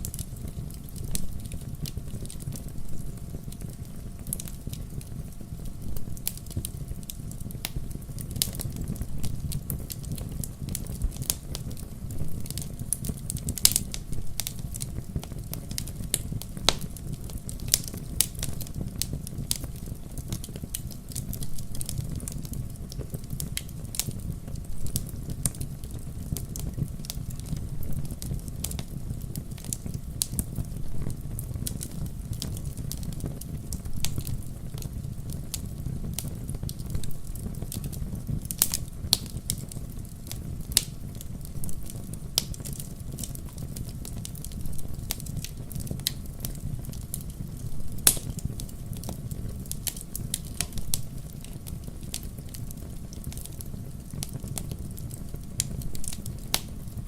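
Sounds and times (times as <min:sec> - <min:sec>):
fire crackles and pops: 0:00.0 - 0:57.0
low rumble of flames: 0:00.0 - 0:57.0.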